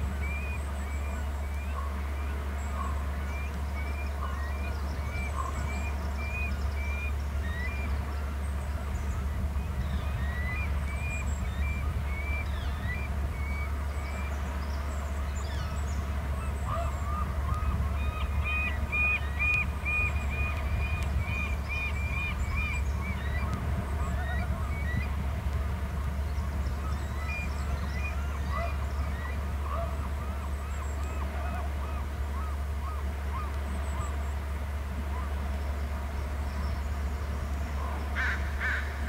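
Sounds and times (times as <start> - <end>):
flock of birds calling: 0.0 - 39.0.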